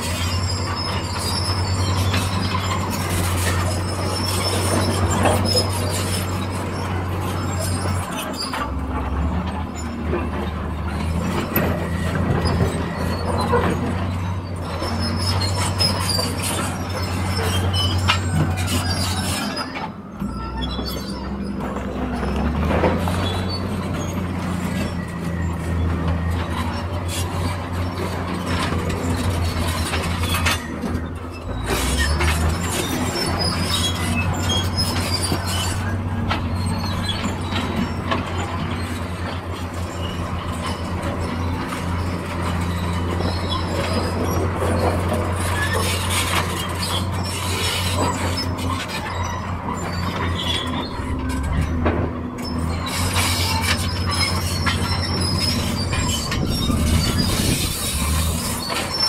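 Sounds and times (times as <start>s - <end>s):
diesel engine running: 0.0s - 59.0s
metallic clanks and squeaks: 0.0s - 59.0s.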